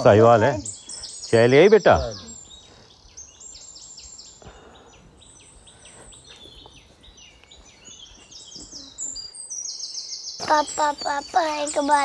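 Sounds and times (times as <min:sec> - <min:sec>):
faint outdoor background hiss: 0:00.0 - 0:12.0
small birds chirping: 0:00.0 - 0:12.0.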